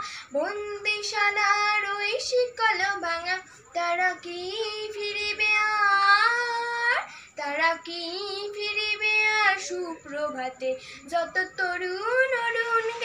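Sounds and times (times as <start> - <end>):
girl singing solo: 0.0 - 13.0.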